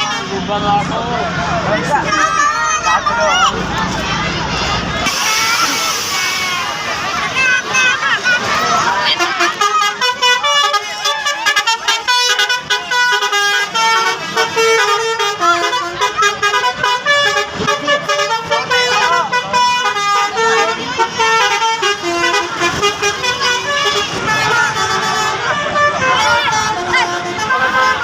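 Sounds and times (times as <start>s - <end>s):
bus horn playing a tune: 5.0s - 28.0s.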